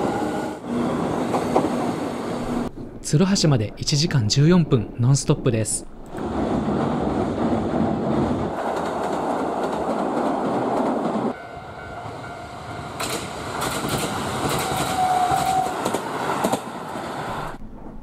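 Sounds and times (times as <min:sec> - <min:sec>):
train rumbling across bridge: 0:00.0 - 0:02.7, 0:06.1 - 0:18.0.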